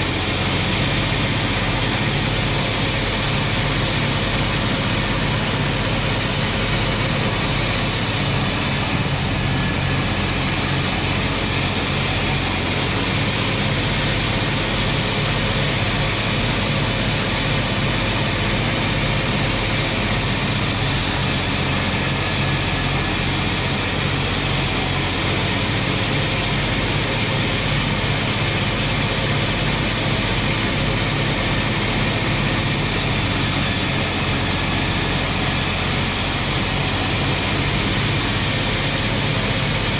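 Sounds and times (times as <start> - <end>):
wood-sawing machinery running: 0.0 - 39.9.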